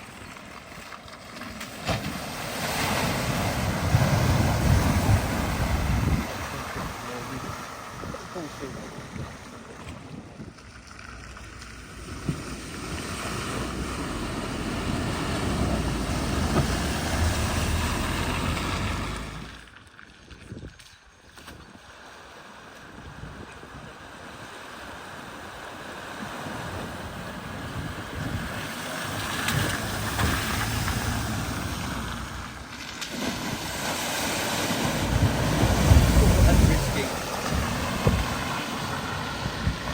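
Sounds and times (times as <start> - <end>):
car engine rumbling: 0.0 - 19.8, 26.3 - 39.9
water rushing and splashing: 0.0 - 19.9, 21.4 - 39.9.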